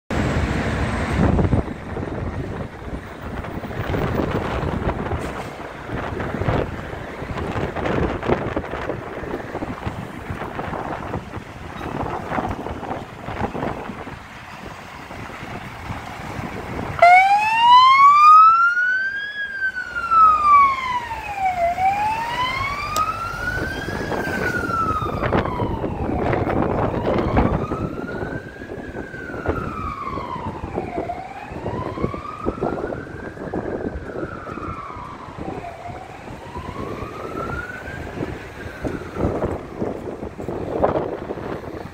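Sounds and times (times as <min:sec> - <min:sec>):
truck engine and road noise: 0:00.1 - 0:41.9
fire engine siren wailing: 0:00.2 - 0:41.9.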